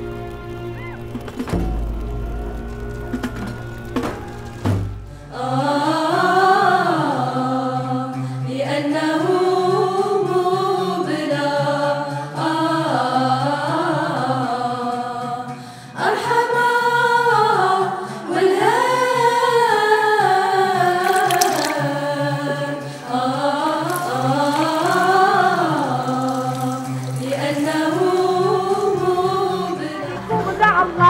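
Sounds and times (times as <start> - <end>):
choir singing: 5.3 - 21.1, 21.8 - 31.0.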